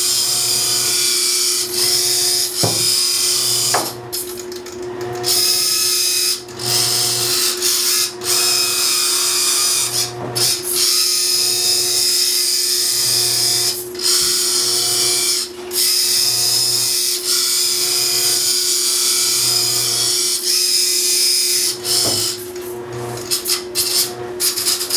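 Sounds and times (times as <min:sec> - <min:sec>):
small electric motor whining: 0:00.0 - 0:24.9.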